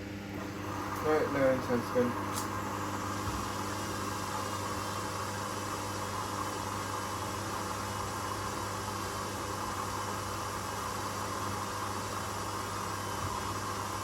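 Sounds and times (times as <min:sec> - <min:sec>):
washing machines running: 0:00.0 - 0:14.0.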